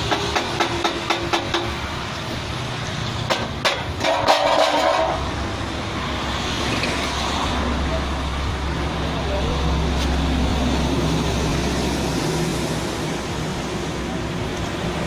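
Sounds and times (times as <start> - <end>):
low hum of traffic: 0.0 - 15.0.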